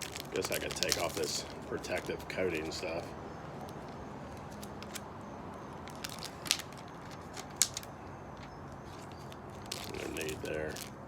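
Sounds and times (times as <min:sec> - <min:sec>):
plastic film peeling crackle: 0:00.0 - 0:11.0.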